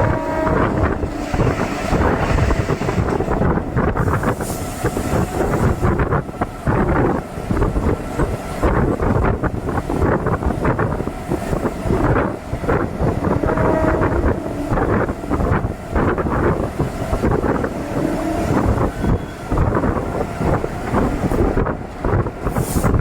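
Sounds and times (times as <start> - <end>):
train wheels rumbling on track: 0.0 - 23.0
wind buffeting microphone: 0.0 - 23.0.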